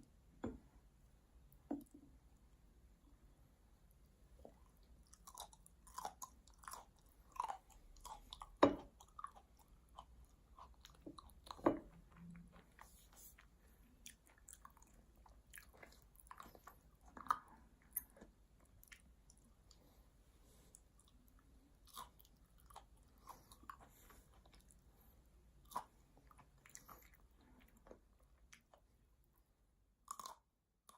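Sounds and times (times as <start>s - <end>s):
person chewing food: 4.4s - 29.4s, 30.0s - 30.9s.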